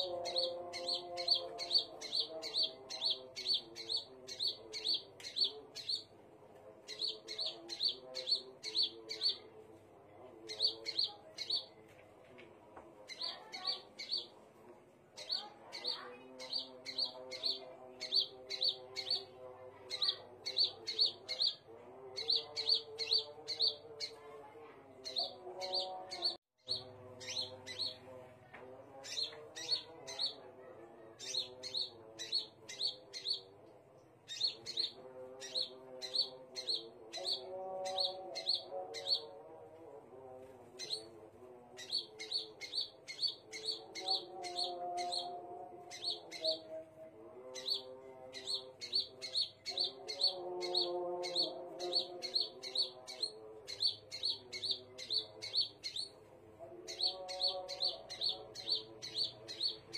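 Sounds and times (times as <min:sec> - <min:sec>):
bird chirping: 0:00.0 - 0:06.2, 0:06.8 - 0:09.6, 0:10.2 - 0:11.8, 0:13.0 - 0:14.4, 0:15.2 - 0:24.3, 0:25.0 - 0:28.2, 0:28.9 - 0:39.5, 0:40.8 - 0:41.2, 0:41.8 - 0:59.9.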